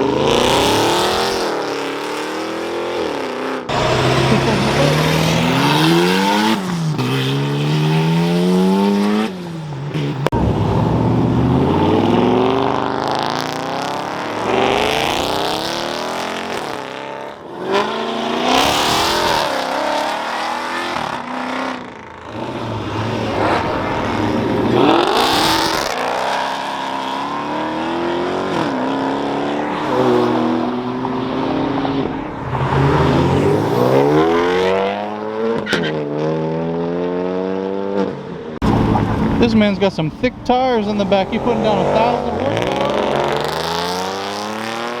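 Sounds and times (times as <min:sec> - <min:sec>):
cars accelerating past: 0:00.0 - 0:45.0.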